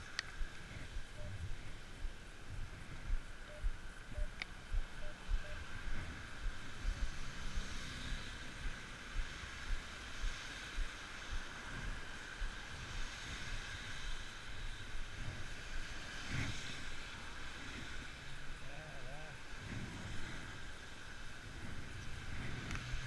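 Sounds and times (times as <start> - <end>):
wind buffeting microphone: 0.0 - 18.6
outdoor hiss: 0.0 - 23.0.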